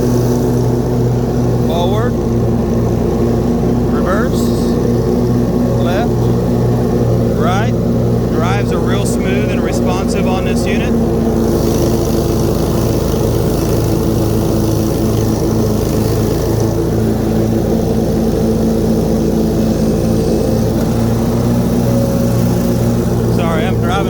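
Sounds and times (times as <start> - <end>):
mower engine running at high speed: 0.0 - 24.0.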